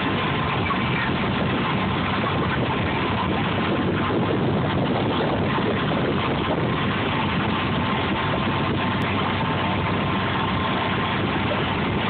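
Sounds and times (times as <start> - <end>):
faint steady whine: 0.0 - 12.0
motorboat engine: 0.0 - 12.0
water from boat wake: 0.0 - 12.0.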